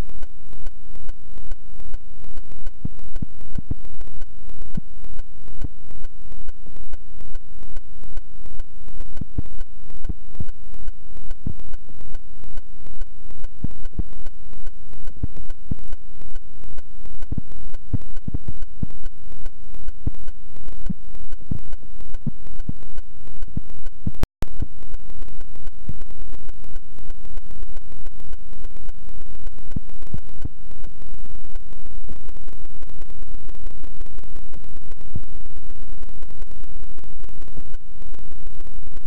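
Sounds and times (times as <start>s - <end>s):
harsh pulsing electronic noise: 0.0s - 39.0s.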